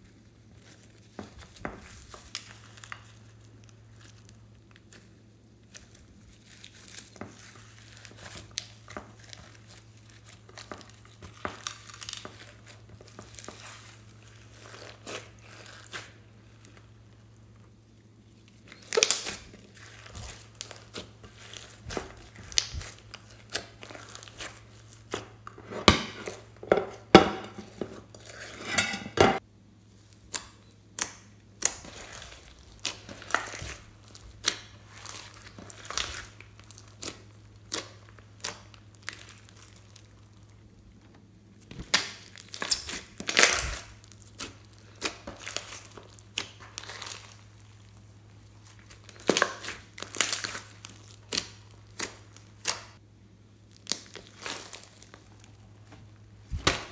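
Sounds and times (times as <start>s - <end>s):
slime squelching and popping: 0.6s - 28.4s, 30.0s - 40.7s, 41.6s - 53.0s, 53.6s - 56.9s.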